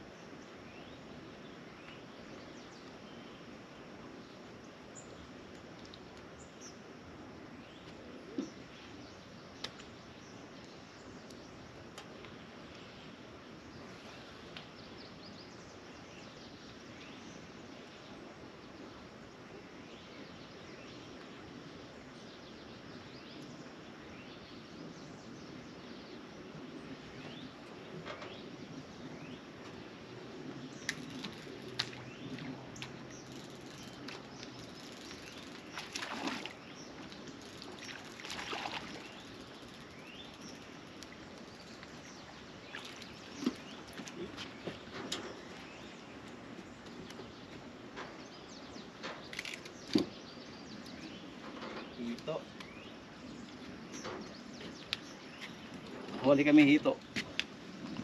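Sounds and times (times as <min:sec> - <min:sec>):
steady outdoor hum: 0:00.0 - 0:58.0
small birds chirping: 0:07.5 - 0:58.0.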